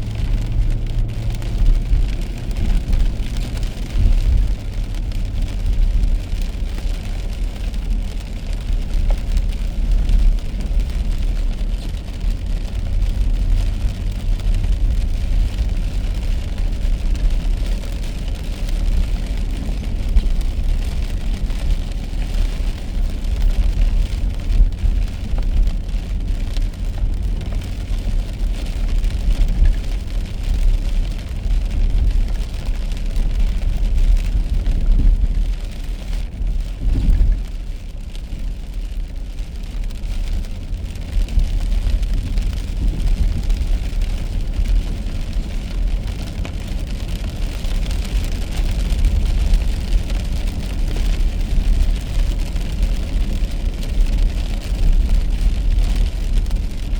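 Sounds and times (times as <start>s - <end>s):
rain and tyre spray hiss: 0.0s - 56.9s
road rumble: 0.0s - 56.9s.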